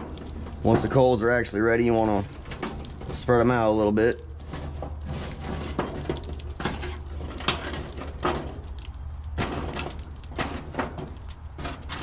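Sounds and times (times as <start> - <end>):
charcoal raked on metal: 0.0 - 12.0.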